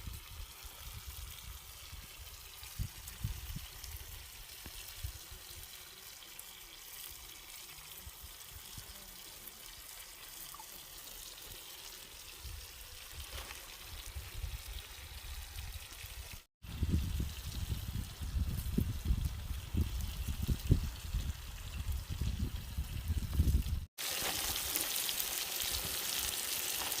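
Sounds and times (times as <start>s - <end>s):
water trickling and pouring: 0.1s - 27.0s.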